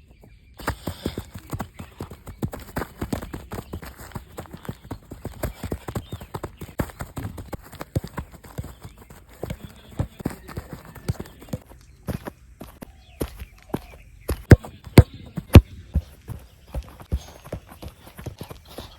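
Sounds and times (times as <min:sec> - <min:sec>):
running footsteps: 0:00.0 - 0:18.9
football boot ball touches: 0:00.6 - 0:18.9.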